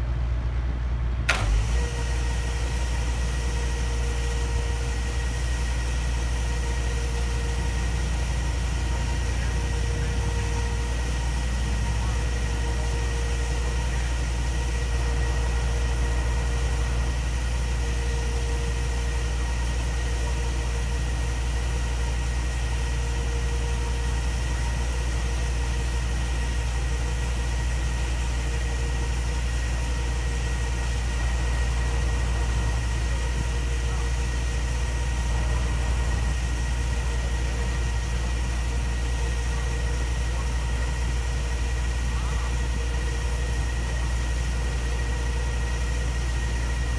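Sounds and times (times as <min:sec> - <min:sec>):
engine idling: 0:00.0 - 0:46.9
faint steady whine: 0:00.0 - 0:46.9.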